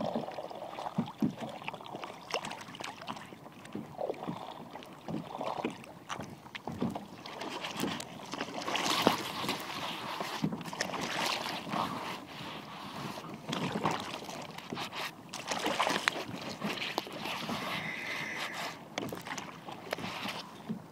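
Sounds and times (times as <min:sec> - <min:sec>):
sea water sloshing: 0:00.0 - 0:20.9.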